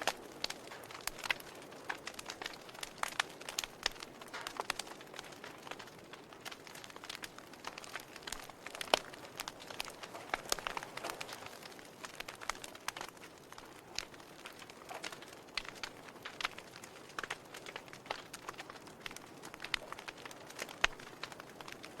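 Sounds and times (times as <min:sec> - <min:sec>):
soft hiss of fire: 0:00.0 - 0:22.0
wood fire crackling: 0:00.0 - 0:22.0.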